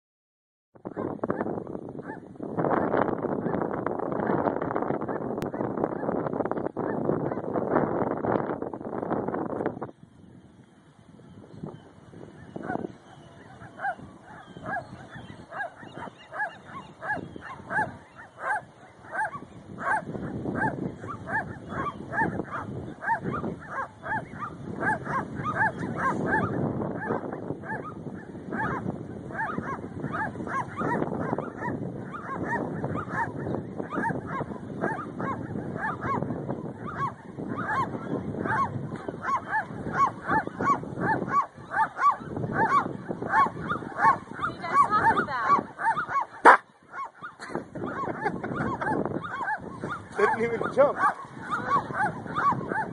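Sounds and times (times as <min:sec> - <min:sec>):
gulls calling: 0:00.9 - 0:52.9.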